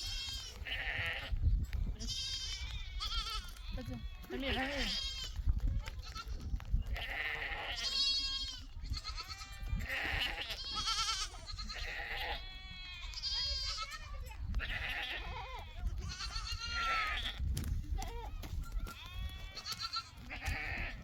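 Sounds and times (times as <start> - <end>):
sheep bleating: 0.0 - 1.4, 2.0 - 5.4, 6.9 - 17.4, 18.0 - 21.0.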